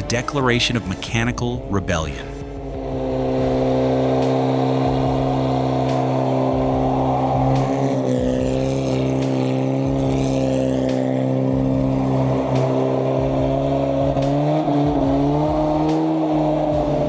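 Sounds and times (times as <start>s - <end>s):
vehicle engine at high revs: 0.0s - 17.0s.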